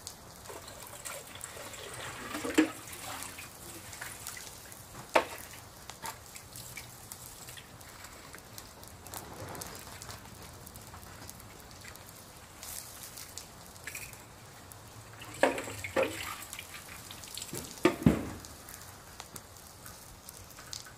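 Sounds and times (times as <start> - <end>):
water dripping and splashing: 0.0 - 20.9.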